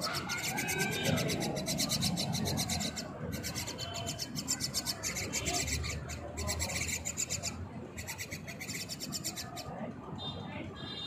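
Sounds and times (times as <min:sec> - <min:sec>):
bird chicks begging: 0:00.0 - 0:10.0.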